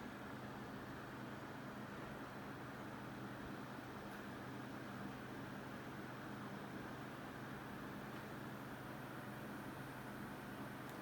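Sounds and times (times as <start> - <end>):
air conditioner fan rushing: 0.0 - 11.0.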